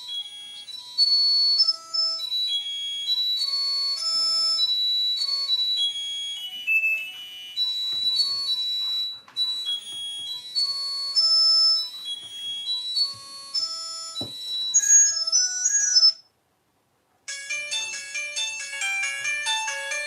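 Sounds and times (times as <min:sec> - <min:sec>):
chord-like phone ringtone: 0:00.0 - 0:16.2, 0:17.3 - 0:20.0
high-pitched phone ringtone: 0:00.0 - 0:16.3, 0:17.3 - 0:20.0.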